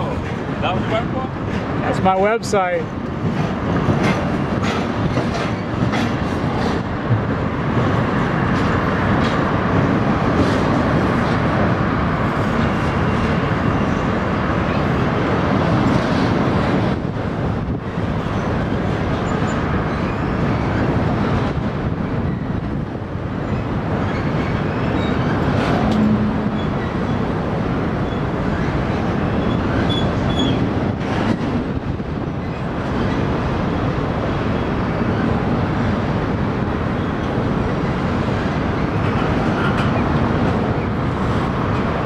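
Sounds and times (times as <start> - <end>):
freight train wheels rumbling on rail: 0.0 - 42.0.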